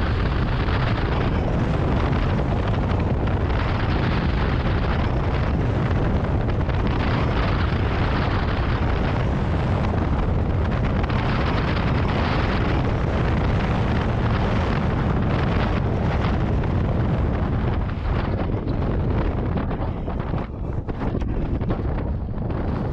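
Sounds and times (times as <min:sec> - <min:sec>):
strong wind buffeting microphone: 0:00.0 - 0:22.9.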